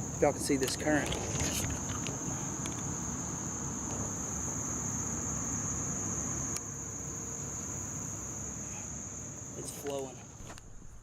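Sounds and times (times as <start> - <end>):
insects chorus high-pitched: 0.0 - 11.0.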